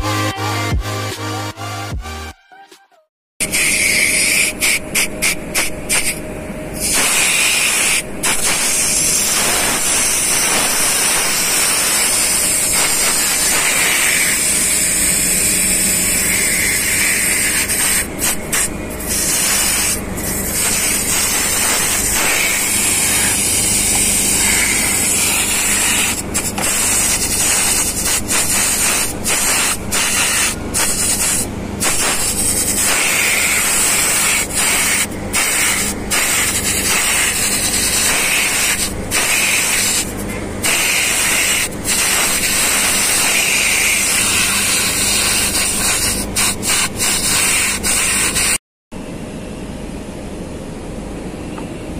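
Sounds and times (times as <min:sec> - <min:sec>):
gas hissing through coil: 0:03.4 - 0:48.6.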